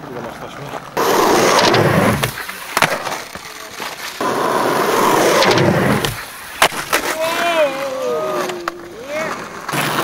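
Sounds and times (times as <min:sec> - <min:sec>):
skateboard wheels rolling on asphalt: 0:00.0 - 0:10.0
skateboard clacks: 0:00.7 - 0:10.0.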